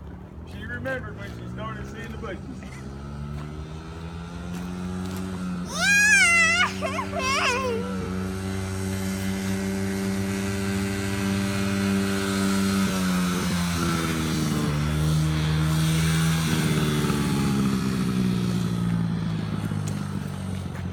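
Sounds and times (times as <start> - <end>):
dirt bike engine running: 0.7 - 20.9.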